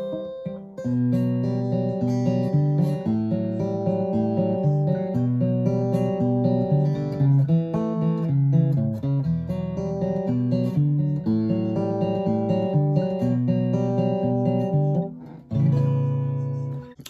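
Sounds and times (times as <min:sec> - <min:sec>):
acoustic guitar fingerpicking chords: 0:00.0 - 0:17.0.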